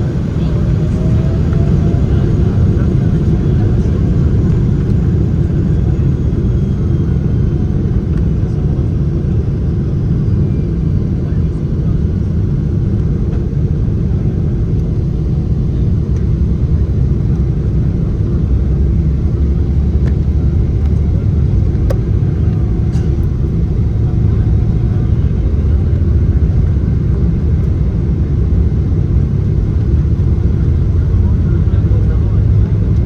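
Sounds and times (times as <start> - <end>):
jet engines deep rumble: 0.0 - 33.0.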